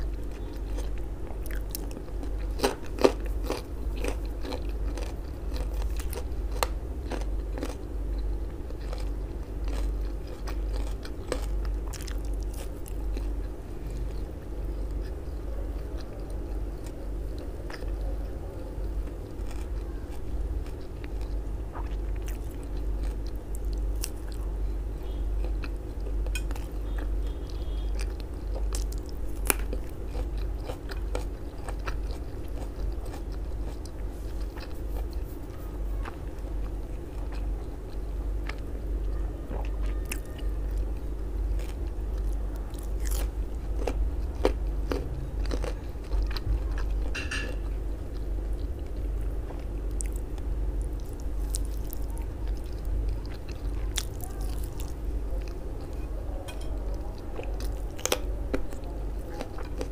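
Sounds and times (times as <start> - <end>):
chewing sausage: 0.0 - 59.9
steady low hum: 0.0 - 59.9.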